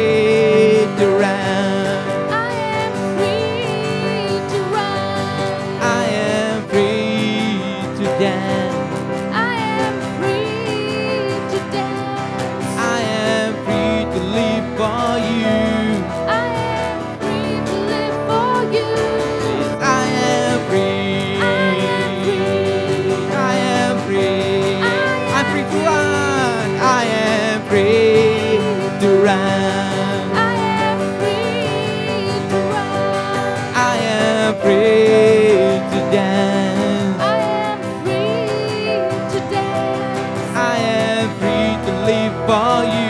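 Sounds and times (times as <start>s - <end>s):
cajon drumming: 0.0s - 43.0s
keyboard: 0.0s - 43.0s
man and woman singing: 0.0s - 43.0s
strummed acoustic guitar: 0.0s - 43.0s.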